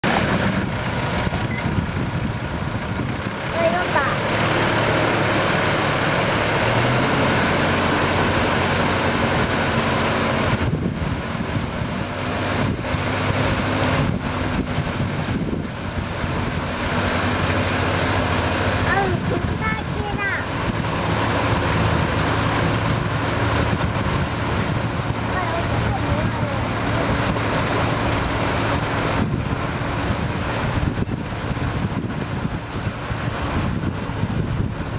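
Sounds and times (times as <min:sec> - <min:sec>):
churning water and mud: 0:00.0 - 0:34.9
tractor engine under load: 0:00.0 - 0:34.9
wind on microphone: 0:00.0 - 0:34.9.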